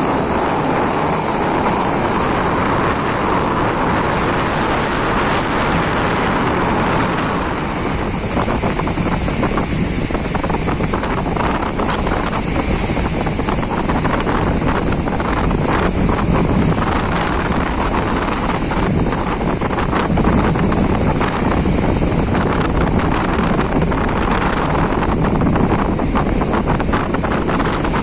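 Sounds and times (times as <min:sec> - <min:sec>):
heavy sea waves rushing: 0:00.0 - 0:28.0
wind buffeting microphone: 0:00.0 - 0:28.0.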